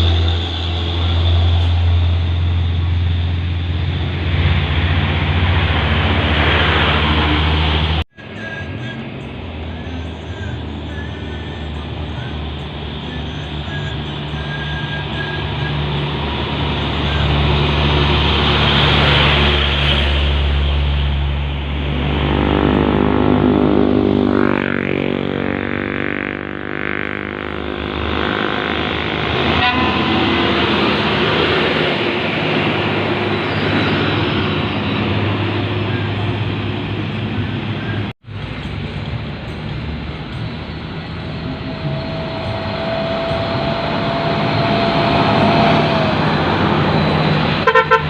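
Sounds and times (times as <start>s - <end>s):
heavy truck diesel engine: 0.0s - 48.0s.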